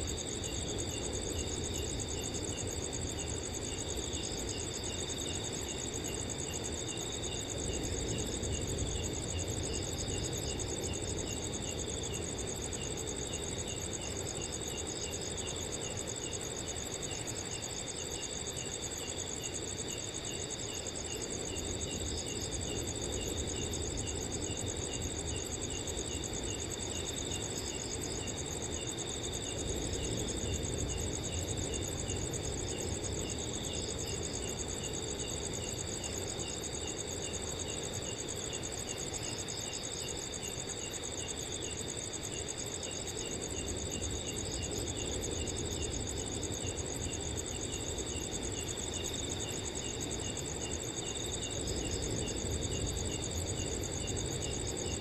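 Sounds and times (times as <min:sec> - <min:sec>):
cricket chirping: 0:00.0 - 0:55.0
crickets trilling: 0:00.0 - 0:55.0.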